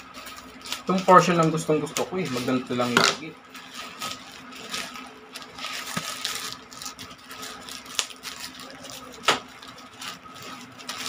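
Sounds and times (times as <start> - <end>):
plastic pouch crinkling: 0.0 - 11.0.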